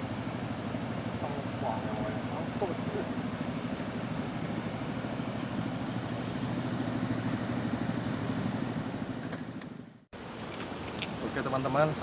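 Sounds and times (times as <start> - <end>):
low engine-like hum: 0.0 - 10.1
insects chirping: 0.0 - 12.0.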